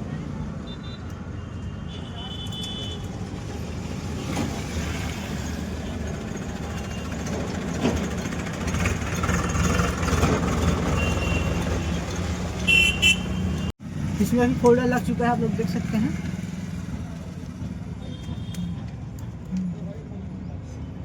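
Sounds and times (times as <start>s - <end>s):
vehicle engine rumbling: 2.2s - 20.9s.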